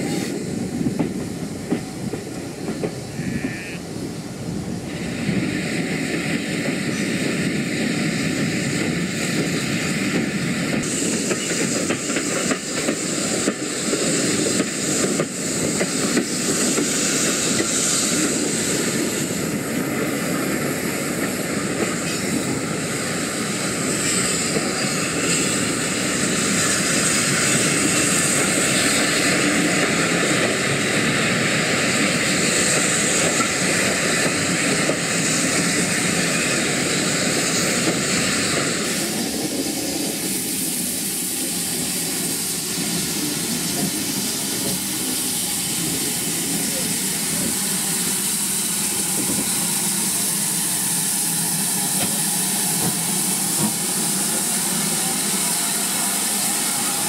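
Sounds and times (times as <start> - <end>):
steam train hiss and rumble: 0.0 - 57.0.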